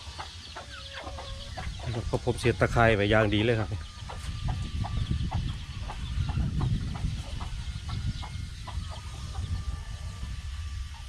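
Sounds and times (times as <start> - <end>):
chickens clucking: 0.0 - 10.3.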